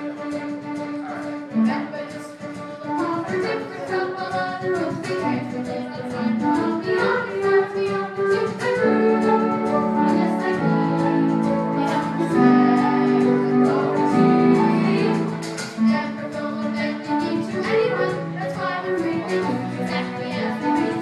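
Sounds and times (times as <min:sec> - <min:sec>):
instrumental accompaniment: 0:00.0 - 0:21.0
group singing: 0:02.9 - 0:21.0.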